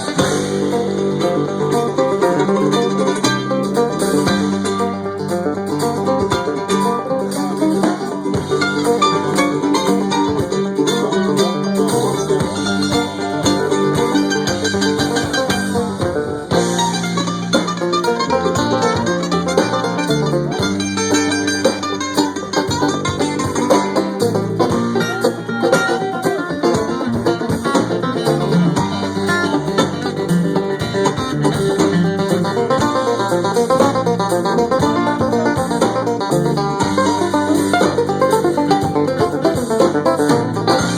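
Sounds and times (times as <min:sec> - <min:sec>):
banjo: 0:00.0 - 0:40.9
bass line: 0:00.0 - 0:40.9
bluegrass band playing: 0:00.0 - 0:40.9
guitar: 0:00.0 - 0:40.9
mandolin picking: 0:00.0 - 0:40.9.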